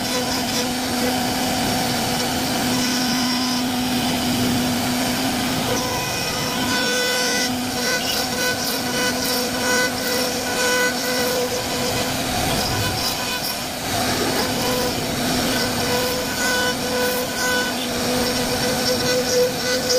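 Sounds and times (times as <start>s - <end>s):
router spindle whine: 0.0s - 19.9s
wood cutting noise: 0.0s - 19.9s.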